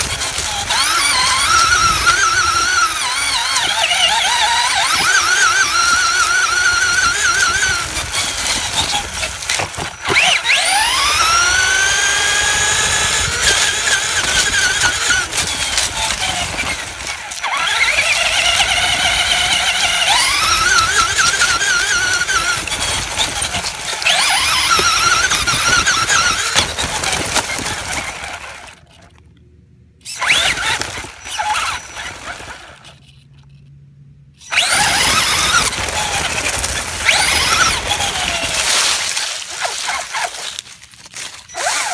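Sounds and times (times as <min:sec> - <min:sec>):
radio-controlled car motor whining: 0:00.0 - 0:28.9, 0:30.0 - 0:33.6, 0:34.4 - 0:41.9.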